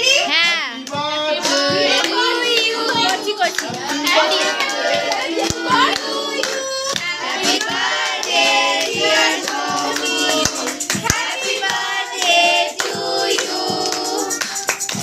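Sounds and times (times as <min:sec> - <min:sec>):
people singing together: 0:00.0 - 0:15.0
hand clapping: 0:00.5 - 0:15.0.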